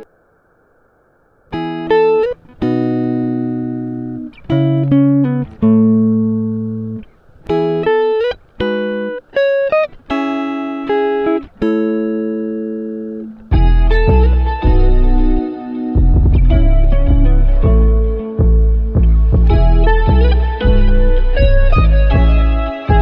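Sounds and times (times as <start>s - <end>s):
plucked guitar melody: 1.5s - 23.0s.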